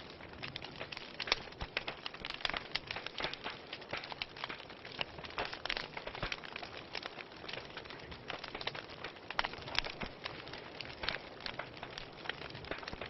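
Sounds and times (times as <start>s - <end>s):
soft steady hiss: 0.0s - 13.0s
wood fire crackling: 0.0s - 13.0s.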